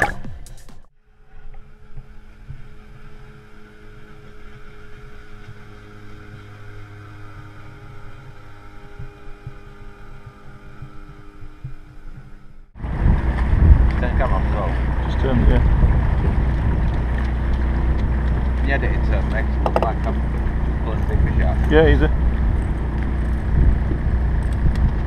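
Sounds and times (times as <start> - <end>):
faint outboard motor hum: 1.0 - 25.0.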